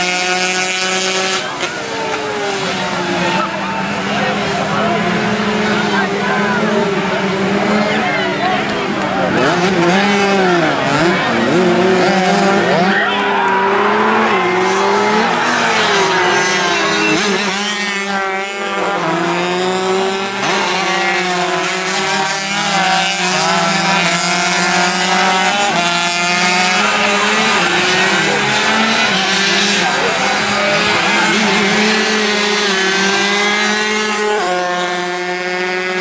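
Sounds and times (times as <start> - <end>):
racing motorcycle engines: 0.0 - 36.0.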